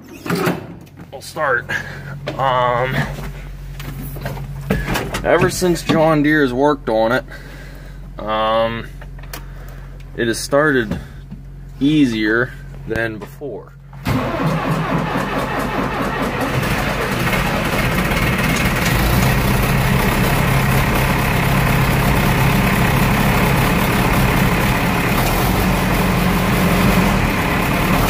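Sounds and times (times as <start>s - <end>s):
tractor diesel engine running: 1.1s - 28.0s.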